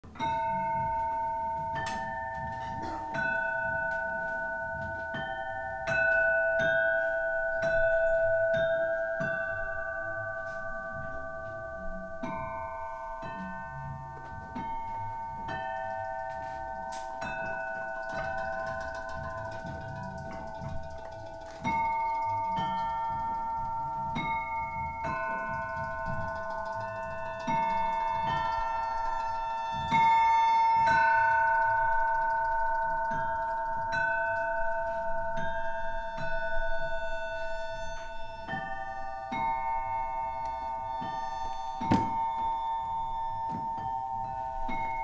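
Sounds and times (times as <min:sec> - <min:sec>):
hammered metal bowls melody: 0:00.0 - 0:45.0.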